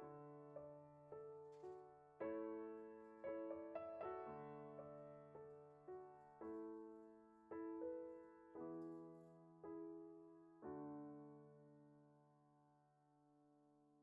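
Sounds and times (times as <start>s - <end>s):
soft slow piano music: 0.0s - 14.0s.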